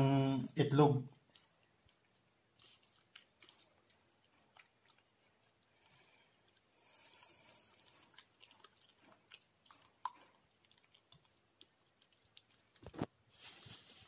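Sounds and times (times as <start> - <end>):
hands mixing chicken in marinade: 0.0 - 14.0.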